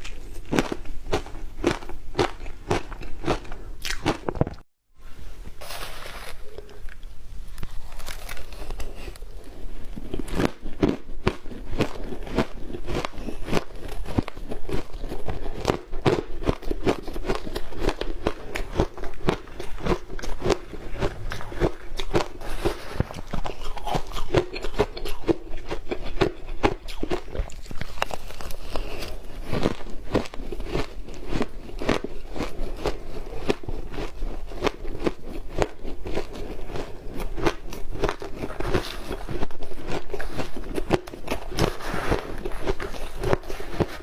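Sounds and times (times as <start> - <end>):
ice crunching when chewed: 0.0 - 4.6, 5.6 - 44.0.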